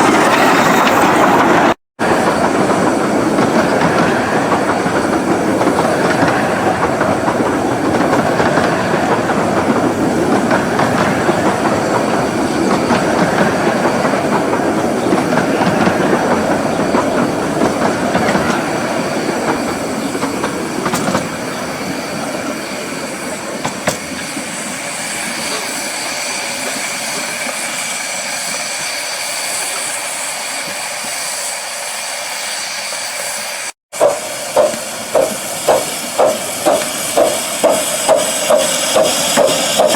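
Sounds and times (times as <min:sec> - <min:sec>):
train wheels clicking over rail joints: 0:00.0 - 0:31.4, 0:34.0 - 0:39.9.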